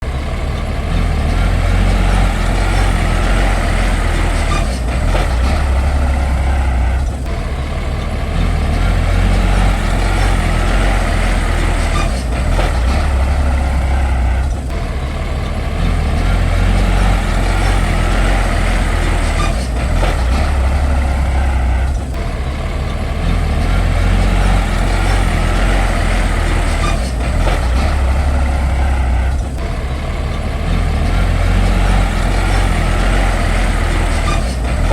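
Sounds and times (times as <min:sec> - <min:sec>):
heavy diesel engine under load: 0:00.0 - 0:34.9.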